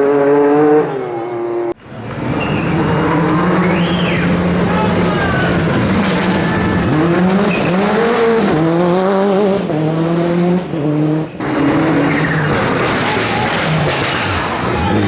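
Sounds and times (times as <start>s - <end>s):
rally car engine revving: 0.0s - 15.0s
tyres squealing: 0.7s - 9.9s, 11.4s - 15.0s.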